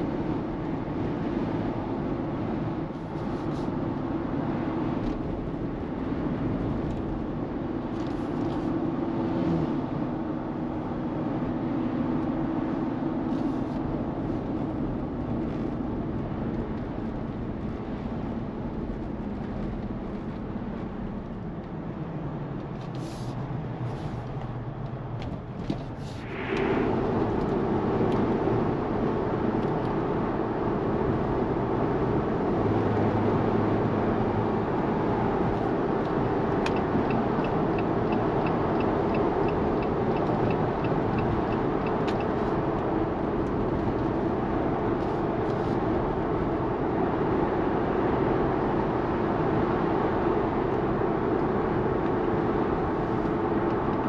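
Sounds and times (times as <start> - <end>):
car engine from inside cabin: 0.0 - 54.0
road noise: 0.0 - 54.0.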